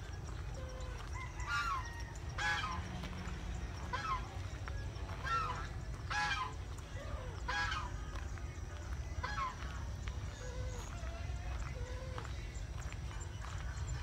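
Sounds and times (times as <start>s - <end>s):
fowl honking: 0.0s - 8.2s, 9.1s - 12.5s
steady low rumble: 0.0s - 14.0s.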